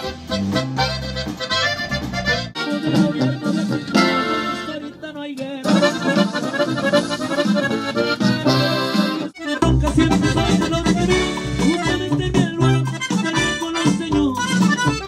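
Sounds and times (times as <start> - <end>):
accordion playing: 0.0 - 15.0.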